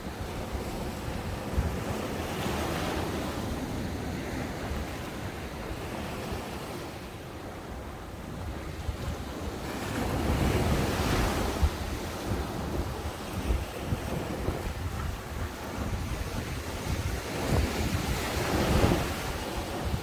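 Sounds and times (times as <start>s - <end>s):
ocean waves breaking on beach: 0.0s - 20.0s
wind buffeting microphone: 0.0s - 20.0s.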